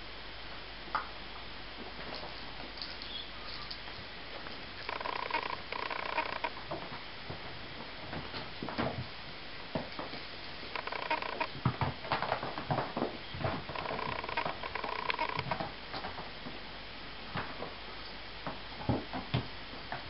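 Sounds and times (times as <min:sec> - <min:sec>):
kittens' paws patting and scrabbling: 0:01.8 - 0:20.0.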